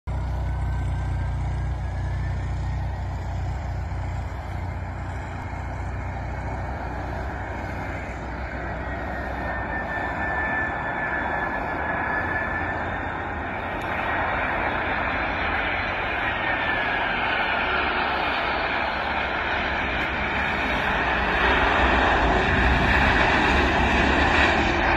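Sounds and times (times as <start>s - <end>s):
jet engine rush with whine: 0.1s - 24.9s.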